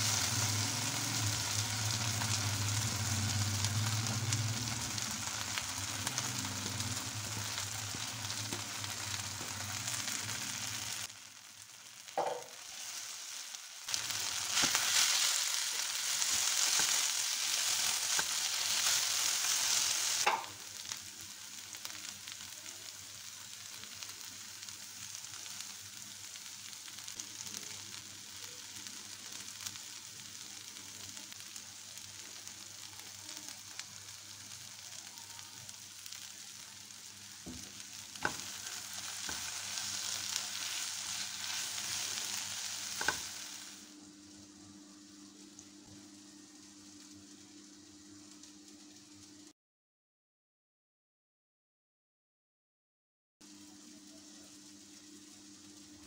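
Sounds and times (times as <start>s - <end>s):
vegetables sizzling in a pan: 0.0s - 49.5s, 53.4s - 56.0s.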